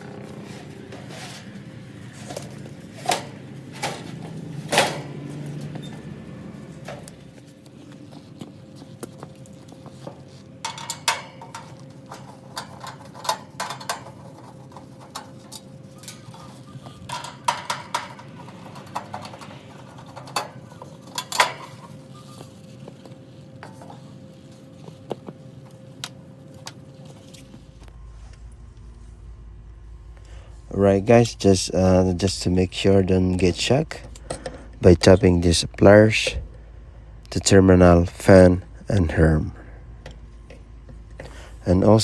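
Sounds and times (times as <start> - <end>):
faint constant tone: 0.0 - 42.0
steady low hum: 0.0 - 42.0.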